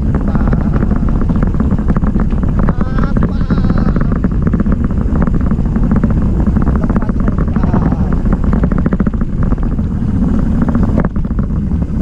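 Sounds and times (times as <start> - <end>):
bike rattling on rough road: 0.0 - 12.0
heavy low rumble: 0.0 - 12.0
wind rushing over camera: 0.0 - 12.0.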